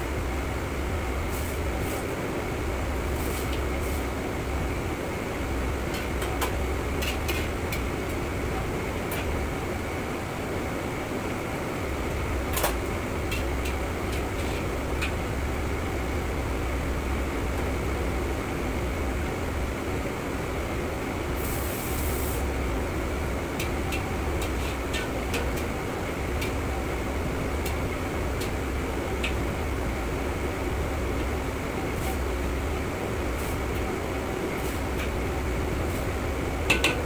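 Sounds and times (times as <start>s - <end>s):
gas wok range roaring: 0.0s - 37.0s.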